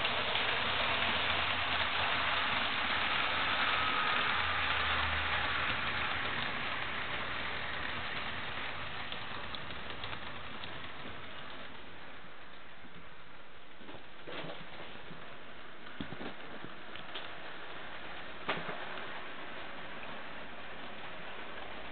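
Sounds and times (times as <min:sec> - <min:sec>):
model train wheels rolling on track: 0:00.0 - 0:21.9.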